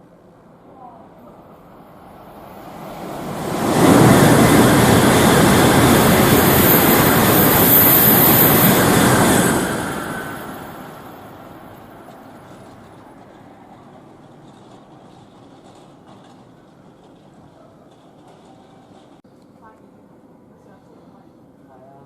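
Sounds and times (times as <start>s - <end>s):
high-speed train passing: 0.0s - 19.2s.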